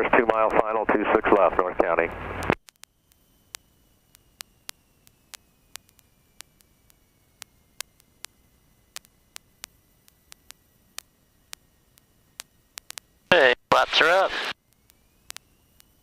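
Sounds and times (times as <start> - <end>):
sharp static clicks: 0.0 - 16.0.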